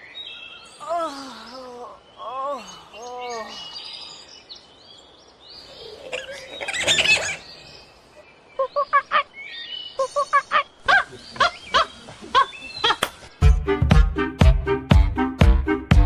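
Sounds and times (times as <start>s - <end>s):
birdsong: 0.0s - 13.6s.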